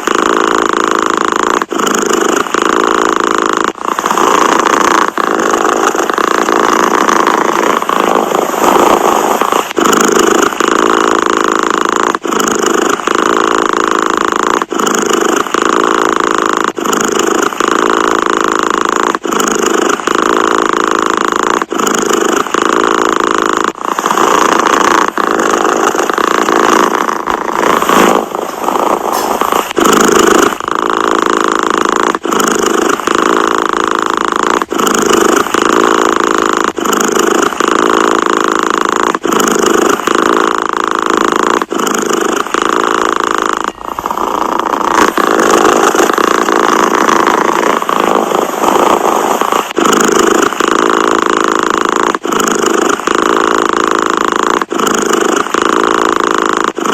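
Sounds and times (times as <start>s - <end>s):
cat purring loudly: 0.0s - 56.9s.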